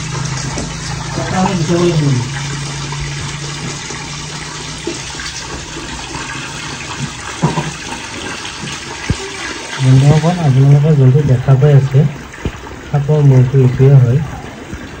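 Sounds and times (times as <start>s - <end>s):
water gushing from hose: 0.0s - 15.0s.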